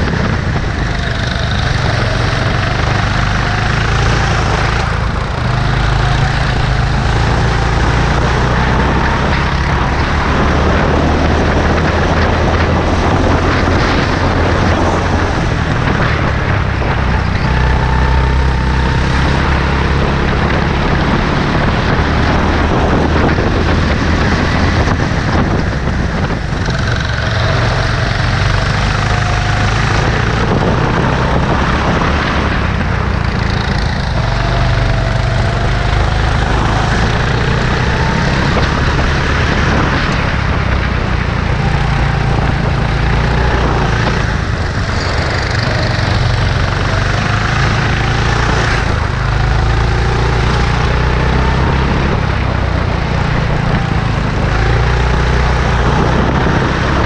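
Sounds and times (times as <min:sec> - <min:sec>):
kart engine revving: 0:00.0 - 0:57.0
steady rushing noise: 0:00.0 - 0:57.0.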